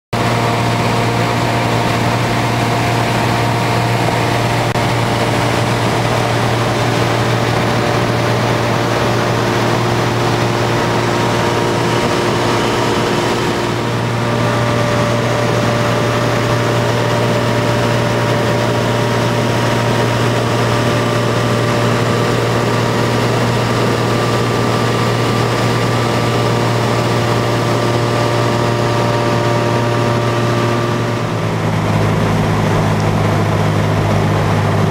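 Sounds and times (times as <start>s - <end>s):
airplane engine drone in cabin: 0.2s - 34.9s.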